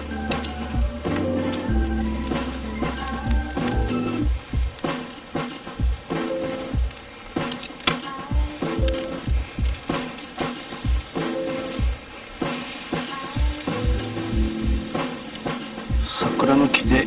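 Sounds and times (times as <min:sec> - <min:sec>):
background music with a beat: 0:00.0 - 0:17.0
food sizzling in a pan: 0:00.0 - 0:17.0.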